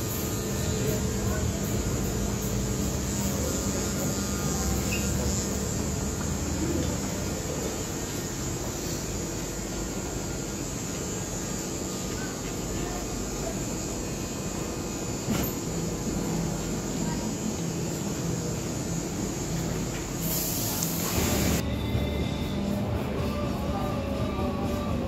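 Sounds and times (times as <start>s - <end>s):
constant noise: 0.0s - 25.0s
electrical hum: 0.0s - 25.0s.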